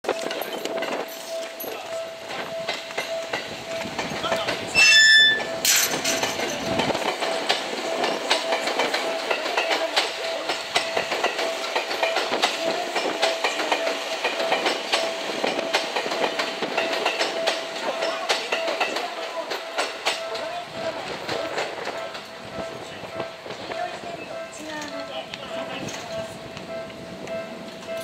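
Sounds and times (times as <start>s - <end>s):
train hum: 0.0s - 28.0s
train wheels clicking over rail joints: 0.1s - 28.0s.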